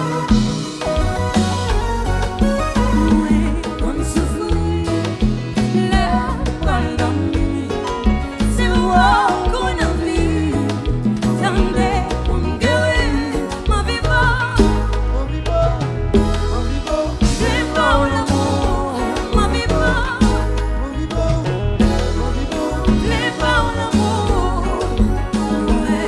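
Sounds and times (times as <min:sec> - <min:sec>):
guitar: 0:00.0 - 0:26.0
live band music: 0:00.0 - 0:26.0
pulsing bass beat: 0:00.0 - 0:26.0
person singing: 0:02.1 - 0:26.0.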